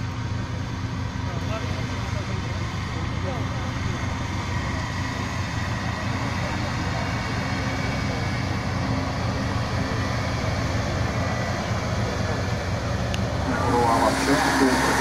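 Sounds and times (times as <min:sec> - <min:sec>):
diesel engine driving past: 0:00.0 - 0:15.0
low hum of vehicles: 0:00.0 - 0:15.0.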